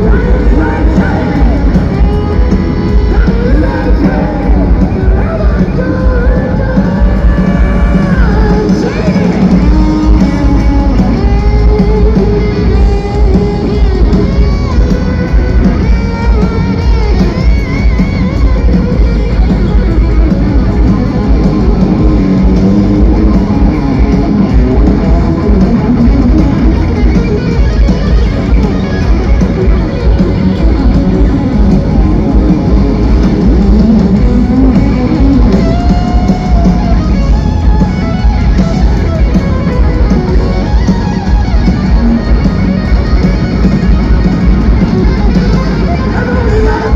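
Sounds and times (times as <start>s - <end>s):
loud rock music: 0.0s - 46.9s.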